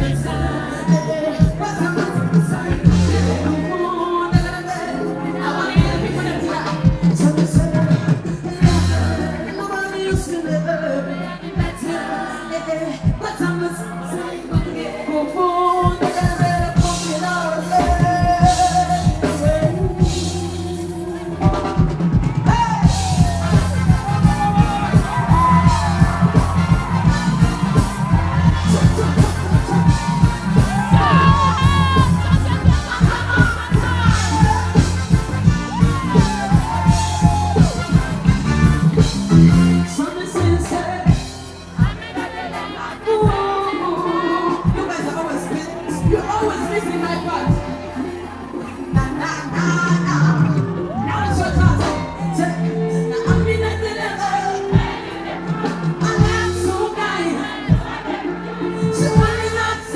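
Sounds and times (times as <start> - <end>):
woman singing: 0.0 - 38.0, 39.0 - 59.9
pop backing track with drum beat: 0.0 - 59.9.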